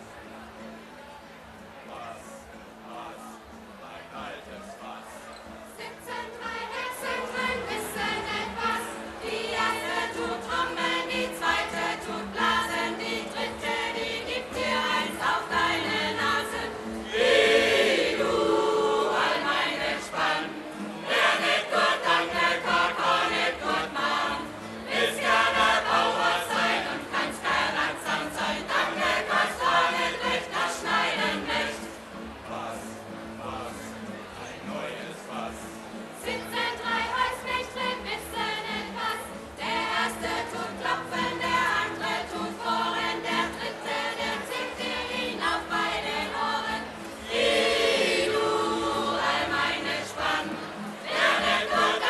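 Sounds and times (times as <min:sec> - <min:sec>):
strummed acoustic guitars: 0:00.0 - 0:52.0
choir singing: 0:02.0 - 0:52.0.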